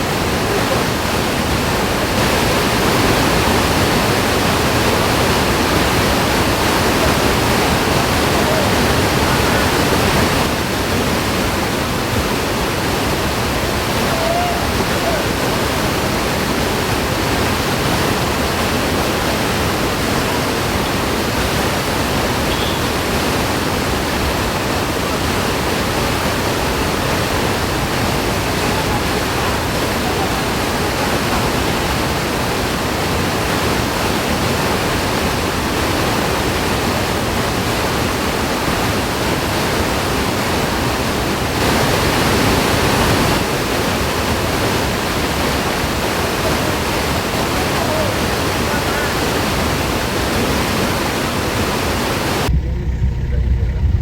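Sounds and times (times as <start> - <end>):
waterfall rushing: 0.0 - 52.5.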